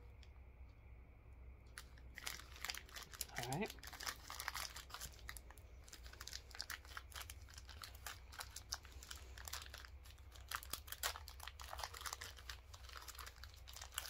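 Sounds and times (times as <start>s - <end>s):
wrapper crinkling: 1.7s - 14.0s.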